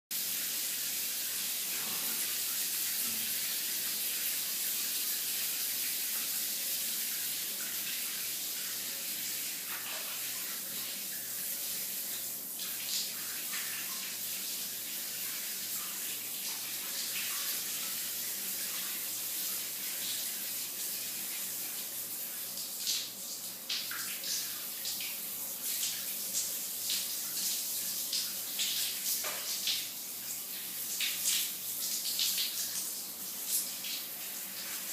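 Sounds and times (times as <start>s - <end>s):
shower spraying water: 0.1s - 34.9s
water splashes and patters: 0.2s - 34.9s.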